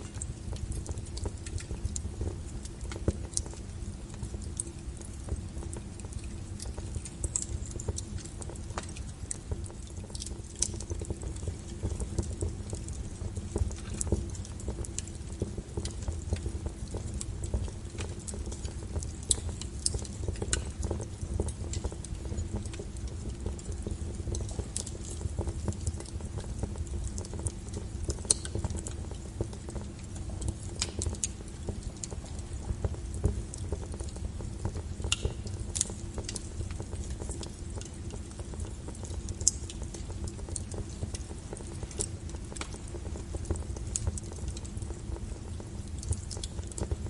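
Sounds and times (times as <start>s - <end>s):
fire crackles and pops: 0.0s - 47.0s
log fire rumbling: 0.0s - 47.0s.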